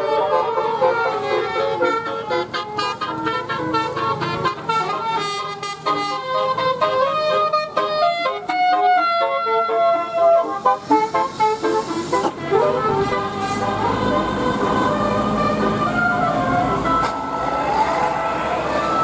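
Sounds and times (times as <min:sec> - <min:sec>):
musical bus air horn melody: 0:00.0 - 0:19.0.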